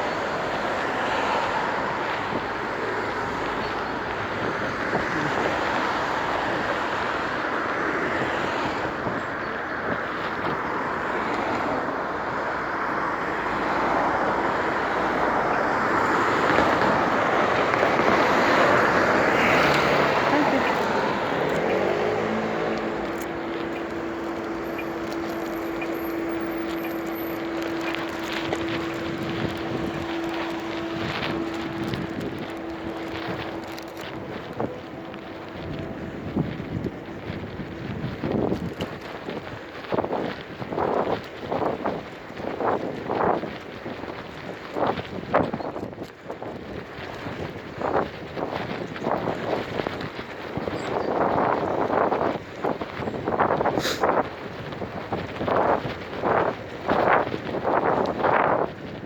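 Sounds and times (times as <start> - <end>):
bicycle road noise: 0.0 - 59.0
wind on microphone: 0.0 - 59.0.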